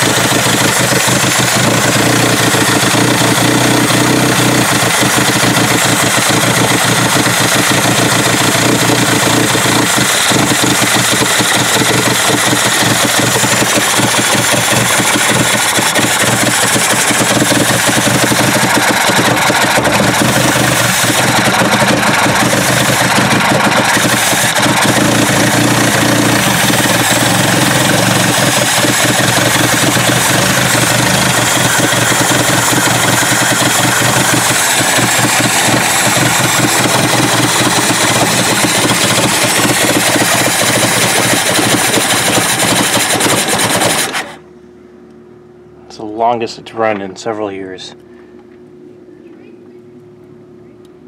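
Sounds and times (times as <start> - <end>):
car engine running: 0.0 - 47.1.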